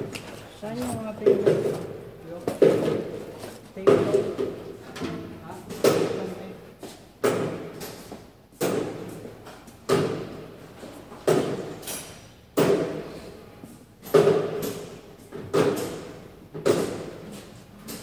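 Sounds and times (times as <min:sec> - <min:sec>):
heavy knocks echoing in large room: 0:00.0 - 0:17.3.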